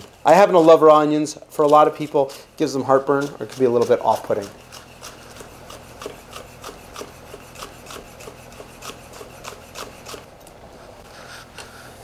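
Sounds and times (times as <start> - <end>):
soft knife scrape: 1.6 - 12.0.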